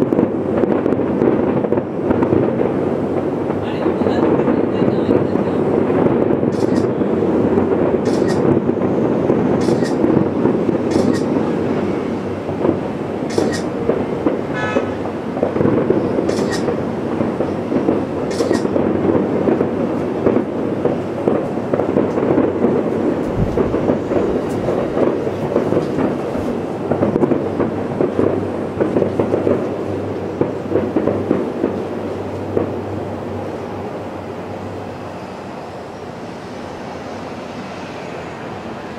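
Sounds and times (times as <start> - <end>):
sharp firework cracks: 0.0 - 34.2
distant fireworks rumble: 0.0 - 38.9.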